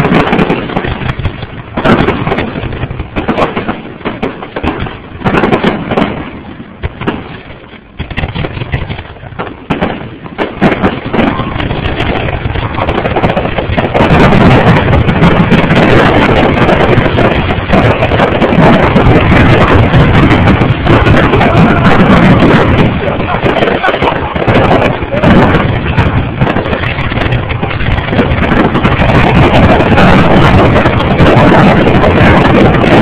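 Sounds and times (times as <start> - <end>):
fireworks bursting with crackles: 0.0 - 33.0.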